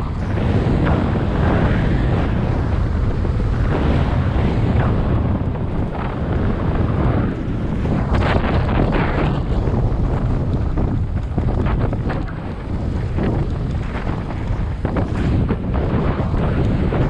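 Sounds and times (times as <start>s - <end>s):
bike rattling: 0.0s - 17.0s
wind rushing over microphone: 0.0s - 17.0s.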